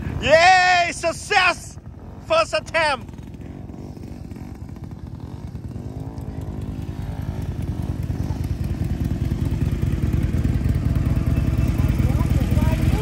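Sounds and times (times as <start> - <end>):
motorcycle engine pulsing: 0.0 - 13.0.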